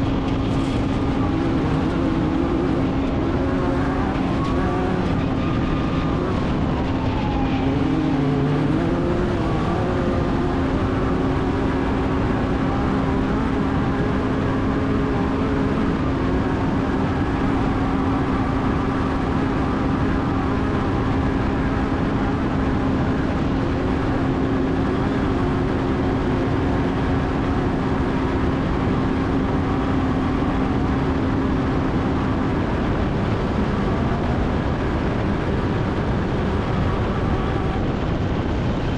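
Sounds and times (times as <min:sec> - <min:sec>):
race vehicle engine running hard: 0:00.0 - 0:38.9
terrain noise: 0:00.0 - 0:38.9
wind noise: 0:00.0 - 0:38.9.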